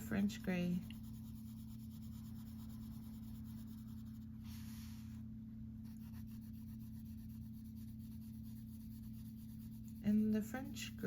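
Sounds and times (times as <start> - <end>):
pencil scratching on paper: 0.0 - 4.7, 5.8 - 11.0
low hum: 0.0 - 11.0.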